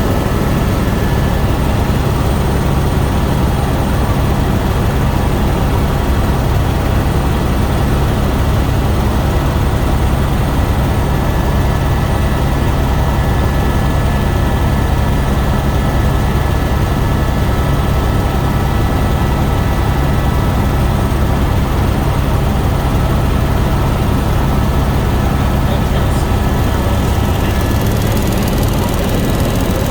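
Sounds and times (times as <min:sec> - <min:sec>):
helicopter rotor and engine drone: 0:00.0 - 0:29.9.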